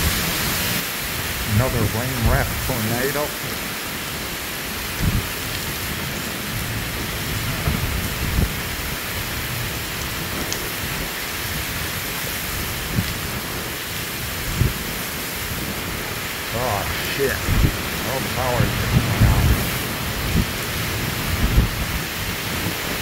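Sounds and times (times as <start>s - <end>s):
heavy rain hiss: 0.0s - 23.0s.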